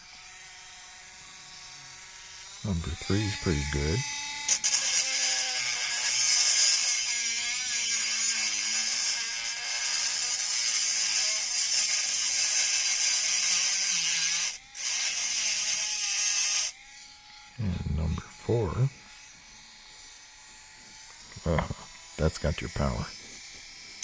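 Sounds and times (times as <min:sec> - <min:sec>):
rotary tool high whir: 0:00.0 - 0:24.0.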